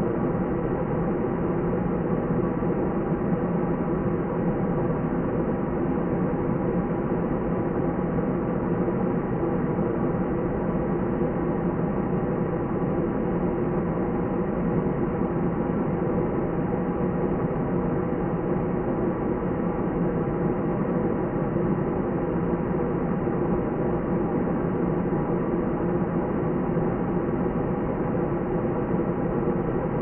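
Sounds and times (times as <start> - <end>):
airliner cabin engine noise: 0.0 - 30.0.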